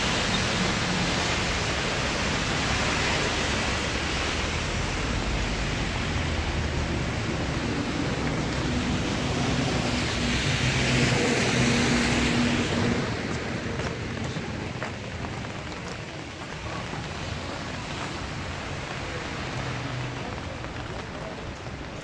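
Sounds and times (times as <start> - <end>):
raindrops tapping: 0.0 - 22.0
steady rain: 0.0 - 22.0
vehicle passing on wet road: 0.0 - 22.0.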